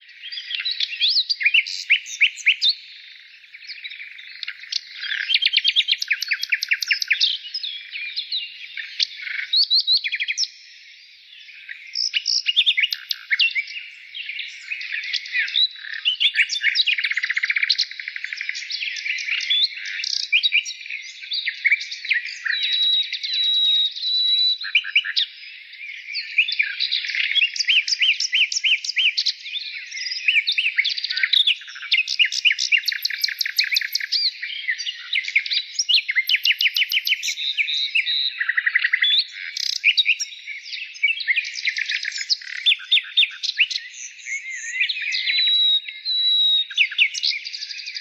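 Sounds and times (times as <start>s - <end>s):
songbirds chirping and twittering: 0.0s - 48.0s.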